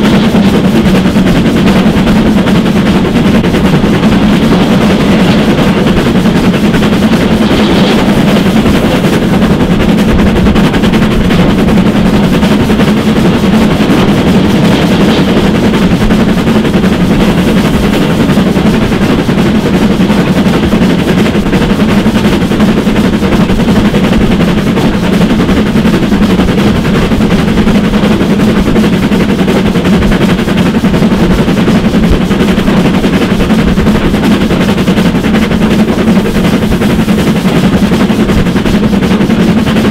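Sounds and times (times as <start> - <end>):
steam locomotive exhaust beats: 0.0 - 39.9
train clattering at speed: 0.0 - 39.9.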